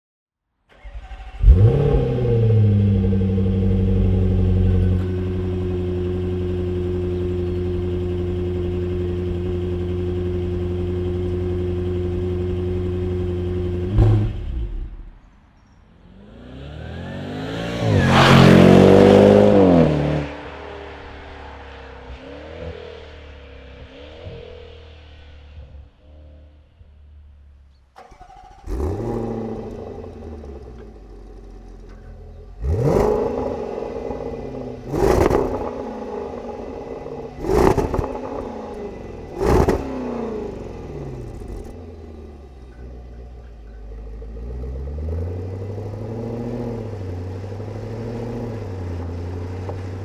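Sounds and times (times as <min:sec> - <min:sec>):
car engine starting and idling: 0:00.6 - 0:50.0
car engine revving as it passes: 0:00.8 - 0:15.1, 0:15.9 - 0:27.4, 0:28.0 - 0:50.0.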